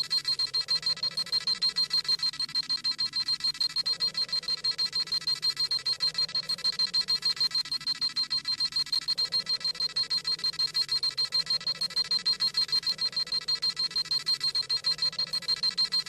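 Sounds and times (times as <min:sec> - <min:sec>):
rapid high electronic beeping: 0:00.0 - 0:16.0.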